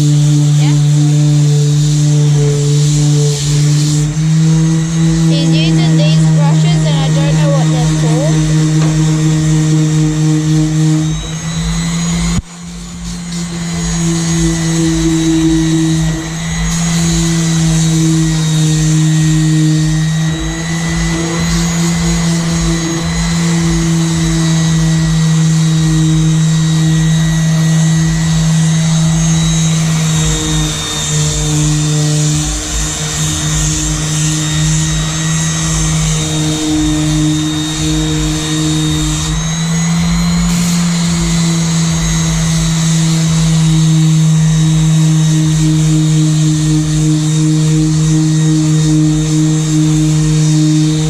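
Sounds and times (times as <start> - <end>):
electric sander running: 0.0 - 51.0.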